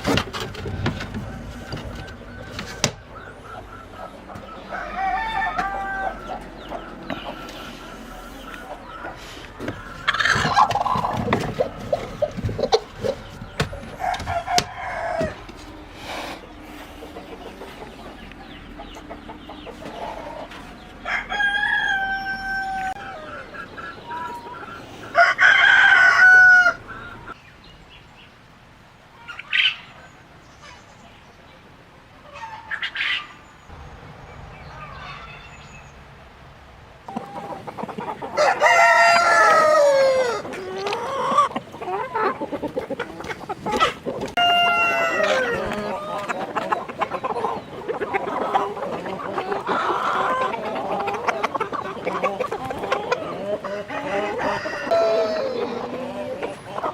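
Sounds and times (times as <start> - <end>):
roosters crowing: 0.0 - 27.4, 32.2 - 56.9
chickens clucking: 0.0 - 56.9.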